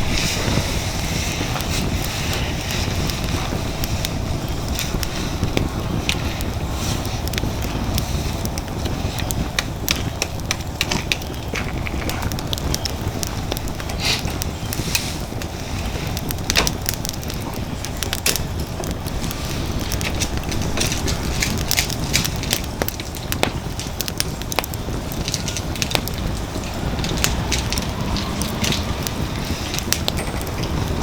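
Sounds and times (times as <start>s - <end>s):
fire crackling and popping: 0.0s - 31.0s
fire roaring: 0.0s - 31.0s.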